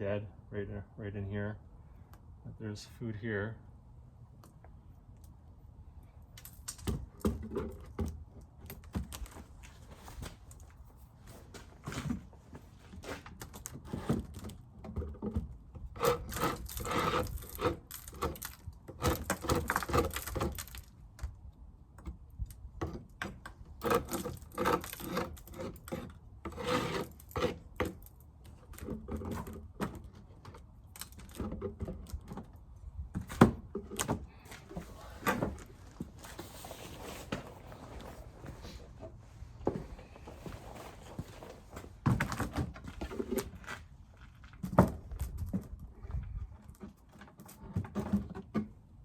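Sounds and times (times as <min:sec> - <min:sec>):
wooden frames scraping: 0:06.8 - 0:20.9, 0:22.8 - 0:49.0.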